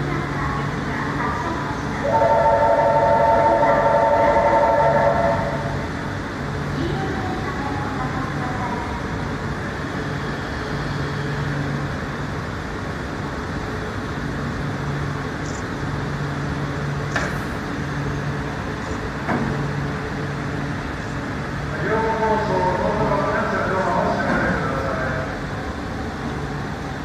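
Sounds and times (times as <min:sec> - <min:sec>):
train equipment hum and rumble: 0:00.0 - 0:27.0.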